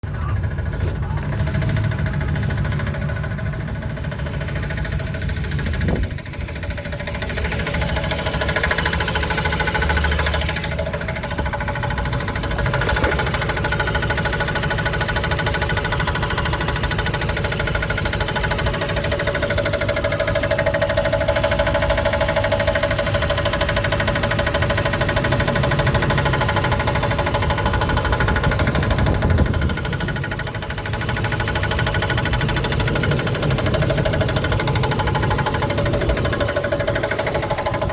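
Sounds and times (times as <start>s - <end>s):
truck engine running: 0.0s - 37.9s
repeating knocking noise: 0.6s - 37.9s.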